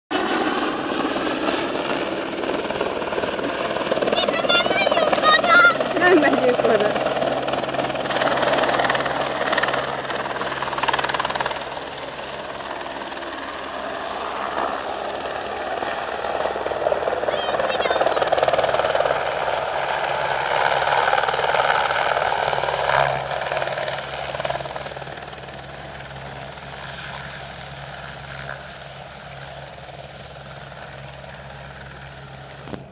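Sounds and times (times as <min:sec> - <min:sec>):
helicopter rotor and engine roar: 0:00.1 - 0:32.9.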